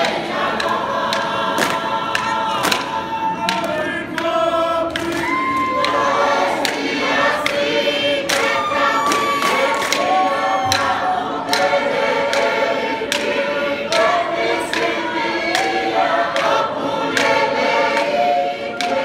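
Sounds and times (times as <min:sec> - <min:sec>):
group singing held notes: 0:00.0 - 0:19.0
sharp claps: 0:00.0 - 0:19.0.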